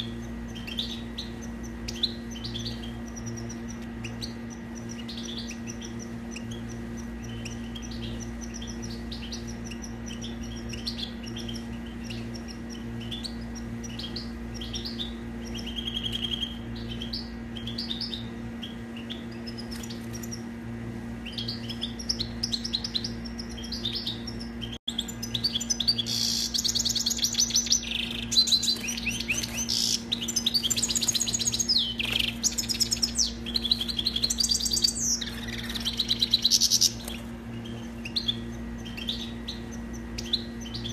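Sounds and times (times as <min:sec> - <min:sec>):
goldfinch twittering song: 0:00.0 - 0:40.9
low steady hum: 0:00.0 - 0:40.9.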